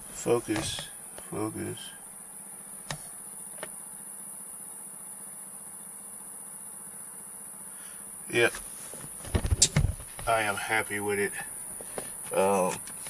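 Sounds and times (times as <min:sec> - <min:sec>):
faint low hum: 0:00.0 - 0:13.0
high-pitched insect chorus: 0:00.0 - 0:13.0.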